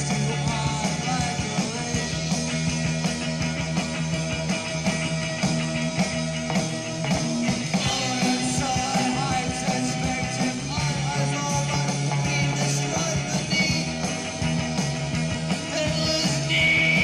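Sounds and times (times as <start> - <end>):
held bass notes: 0.0 - 17.0
rock band playing: 0.0 - 17.0
steady drum beat: 0.0 - 17.0.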